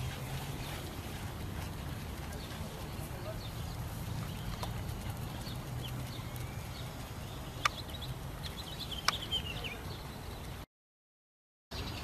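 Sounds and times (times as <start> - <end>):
small birds chirping: 0.0 - 10.7, 11.7 - 12.0.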